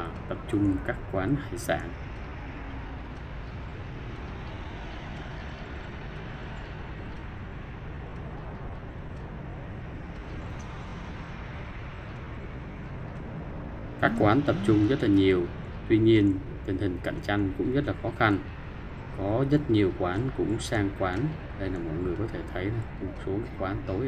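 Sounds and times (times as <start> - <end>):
low engine hum: 0.0 - 24.0
tyre hiss and passing traffic: 0.0 - 24.0.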